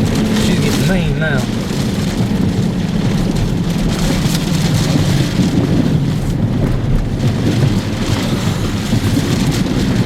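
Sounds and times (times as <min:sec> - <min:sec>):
low rumble of road and engine: 0:00.0 - 0:10.0
wind and rain buffeting vehicle: 0:00.0 - 0:10.0.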